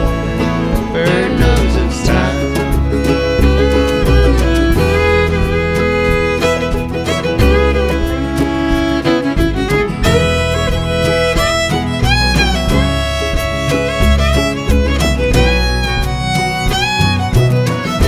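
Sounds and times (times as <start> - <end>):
bass line: 0.0 - 18.0
fiddle melody with sliding notes: 0.0 - 18.0
guitar: 0.0 - 18.0.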